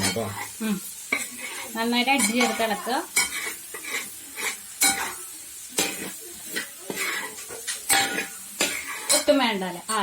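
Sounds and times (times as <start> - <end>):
light sizzle: 0.0 - 10.0
spoon scraping a pan: 0.0 - 10.0.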